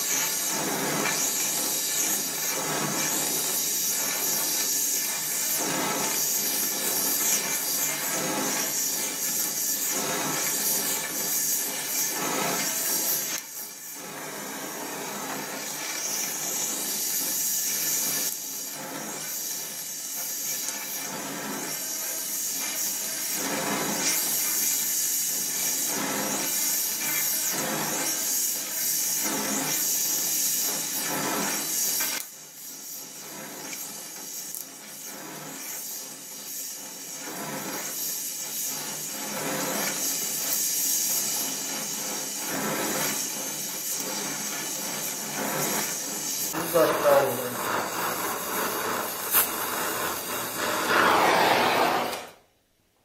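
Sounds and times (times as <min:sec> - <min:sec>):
gas torch flame hissing: 0:00.0 - 0:52.5.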